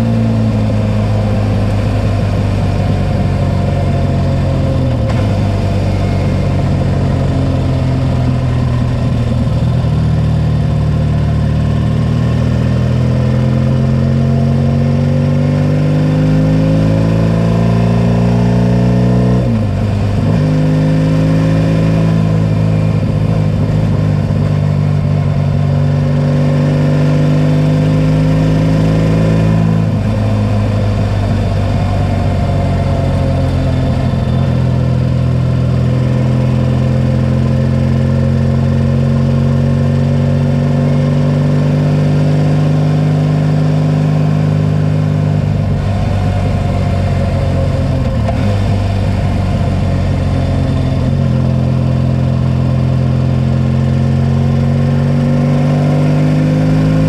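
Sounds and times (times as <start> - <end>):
racing engine at high revs: 0.0 - 57.0.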